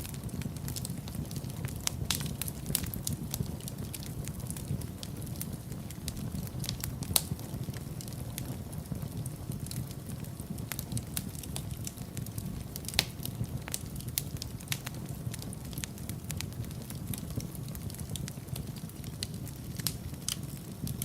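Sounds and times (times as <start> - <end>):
fire crackling and popping: 0.0 - 21.0
fire rumbling: 0.0 - 21.0.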